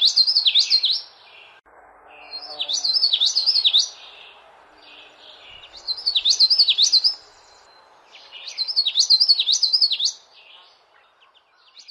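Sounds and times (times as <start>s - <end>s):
songbird singing: 0.0s - 11.9s.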